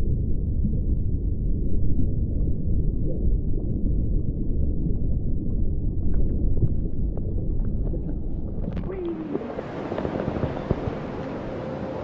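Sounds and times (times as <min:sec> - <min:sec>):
muffled underwater rumble: 0:00.0 - 0:12.0.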